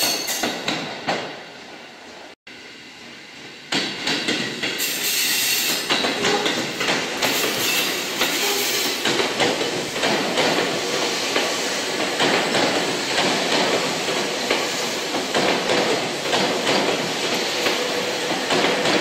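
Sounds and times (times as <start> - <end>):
train running noise: 0.0 - 19.0
train wheels clicking over rail joints: 3.7 - 19.0.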